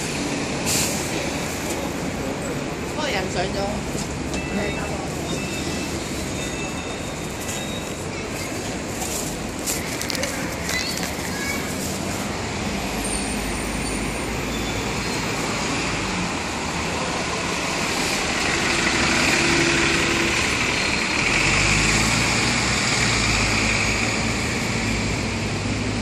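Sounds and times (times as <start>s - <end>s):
bus engine passing: 0.0s - 26.0s
street traffic: 0.0s - 26.0s.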